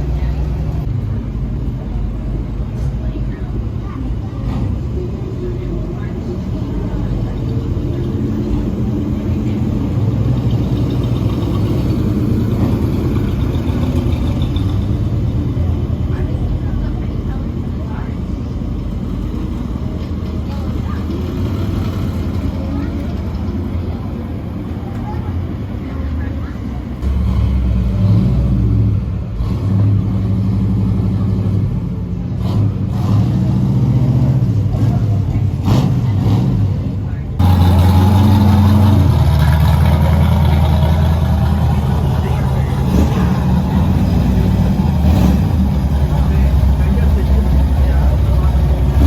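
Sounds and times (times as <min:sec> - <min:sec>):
car engine idling: 0:00.0 - 0:29.9, 0:34.2 - 0:49.0.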